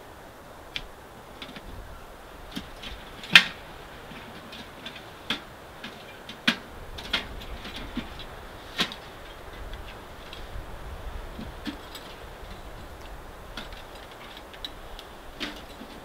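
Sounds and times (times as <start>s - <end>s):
camping gear clicks and knocks: 0.7s - 1.8s, 2.4s - 16.0s.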